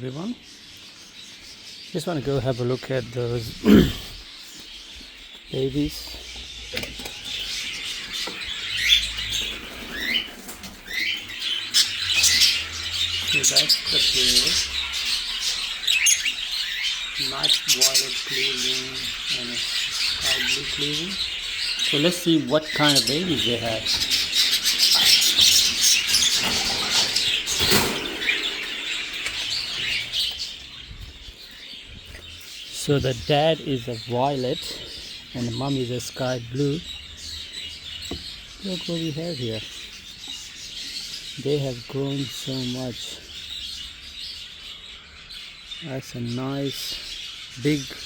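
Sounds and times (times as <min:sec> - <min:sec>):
budgerigars chirping: 0:00.0 - 0:48.0.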